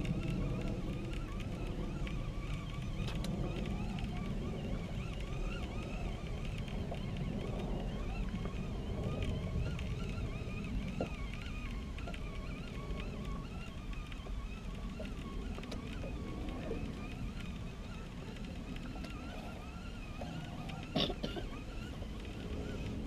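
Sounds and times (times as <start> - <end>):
fishing reel gears whining: 0.0 - 23.0.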